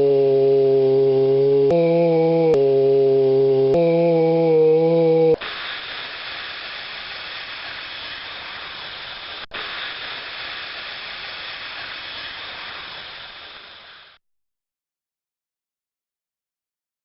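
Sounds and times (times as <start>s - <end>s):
refrigerant hissing: 0.0s - 14.2s.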